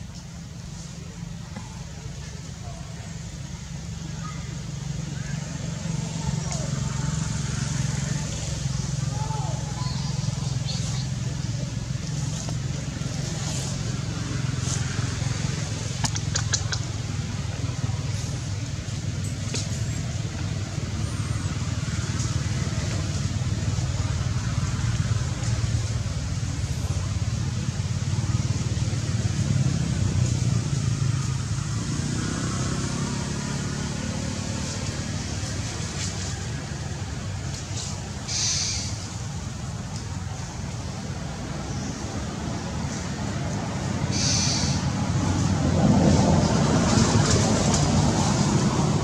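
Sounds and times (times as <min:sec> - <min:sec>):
faint distant voices: 0:00.0 - 0:49.0
low outdoor rumble: 0:00.0 - 0:49.0.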